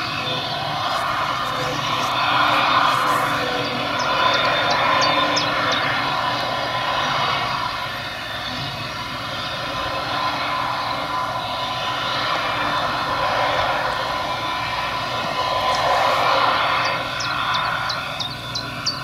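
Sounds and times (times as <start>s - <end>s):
forage harvester engine drone: 0.0s - 19.0s
thin steady whine: 0.0s - 19.0s.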